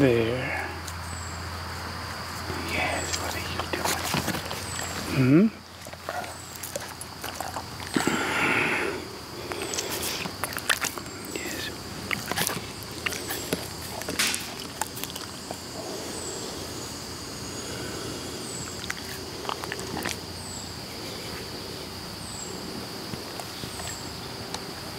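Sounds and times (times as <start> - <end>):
high insect buzz: 0.0 - 24.9.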